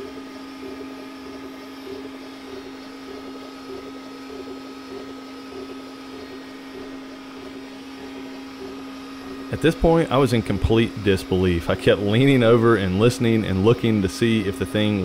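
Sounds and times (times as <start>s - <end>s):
exhaust fan hum: 0.0s - 15.0s
laser arm whirring: 0.0s - 15.0s.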